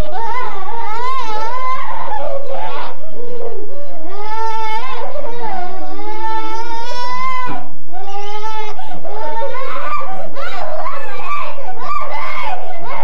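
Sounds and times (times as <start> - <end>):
children squealing and laughing: 0.0 - 13.0.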